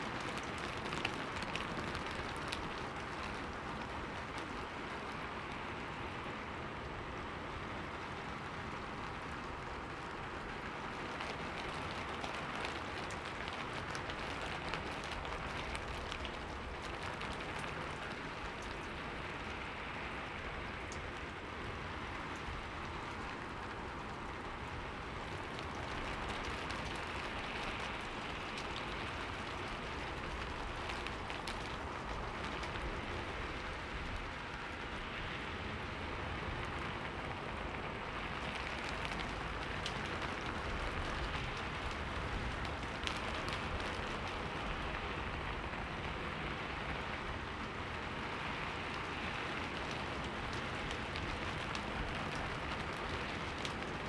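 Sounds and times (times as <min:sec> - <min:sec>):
rain on a window pane: 0:00.0 - 0:54.0.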